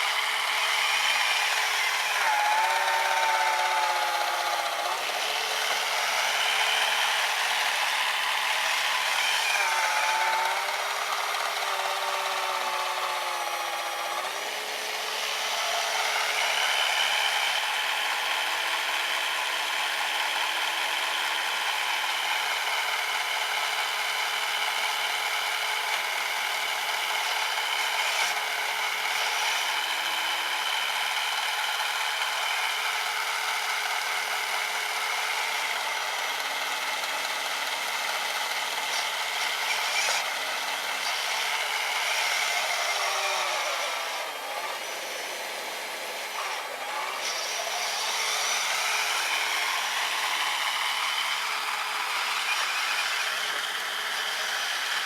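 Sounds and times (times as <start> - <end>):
electric motor whine: 0.0 - 55.0.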